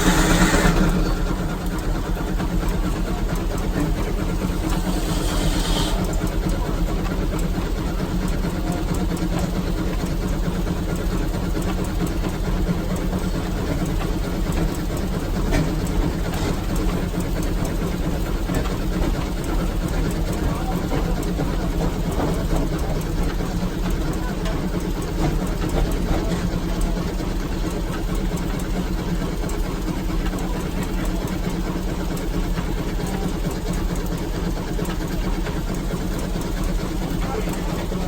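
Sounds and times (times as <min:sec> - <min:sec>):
steam traction engine running: 0:00.0 - 0:38.0.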